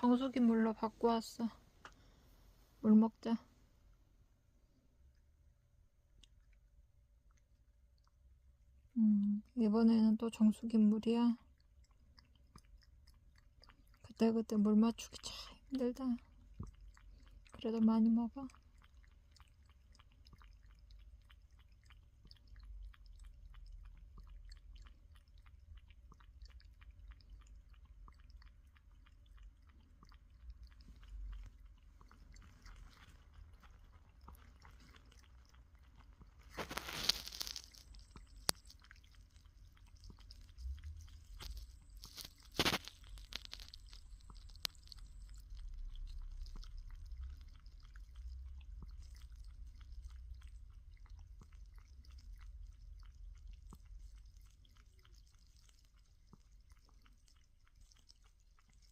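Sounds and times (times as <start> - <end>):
cat lapping water: 0.0 - 58.9.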